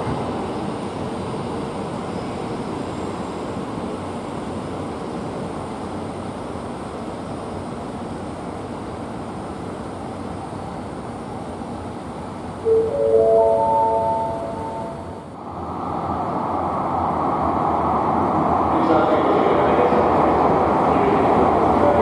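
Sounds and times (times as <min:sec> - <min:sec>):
train rushing hum: 0:00.0 - 0:22.0.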